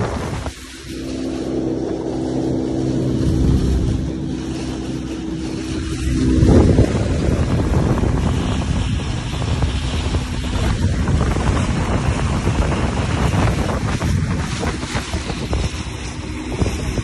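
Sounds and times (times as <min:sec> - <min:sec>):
motorboat running at speed: 0:00.0 - 0:17.0
water rushing past hull: 0:00.0 - 0:17.0
wind buffeting microphone: 0:00.0 - 0:17.0.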